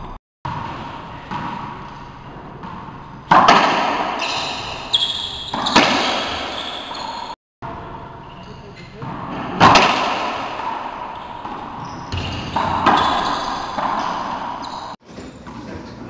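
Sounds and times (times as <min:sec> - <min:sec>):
racquetball hits echoing: 0:00.5 - 0:08.0, 0:08.8 - 0:15.8.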